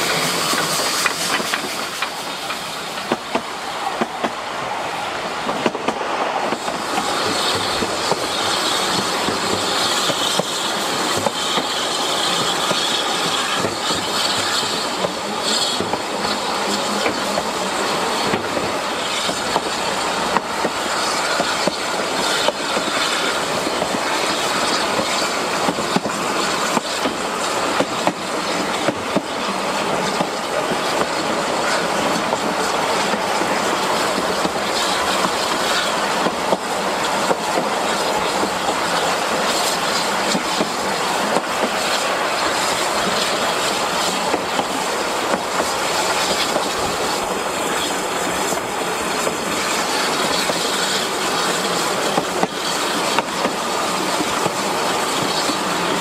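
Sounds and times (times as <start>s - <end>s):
train carriages rolling on track: 0.0s - 56.0s.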